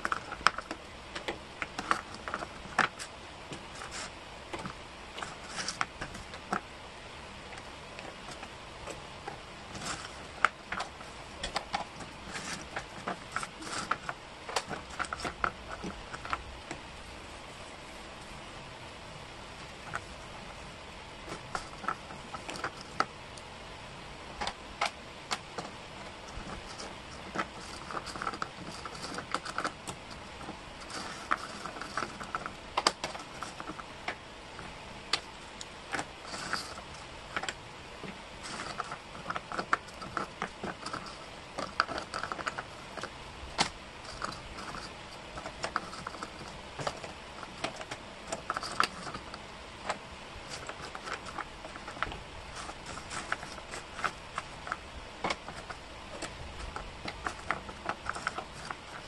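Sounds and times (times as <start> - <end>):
pieces sliding on cork board: 0.0 - 6.7, 8.0 - 16.8, 24.4 - 59.0
wooden jigsaw pieces clicking: 0.0 - 6.7, 7.6 - 16.8, 24.4 - 59.0.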